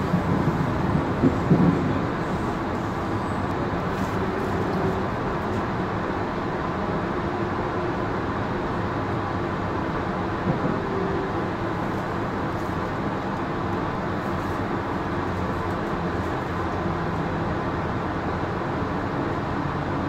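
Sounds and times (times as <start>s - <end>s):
train wheels rumbling on rails: 0.0s - 17.6s.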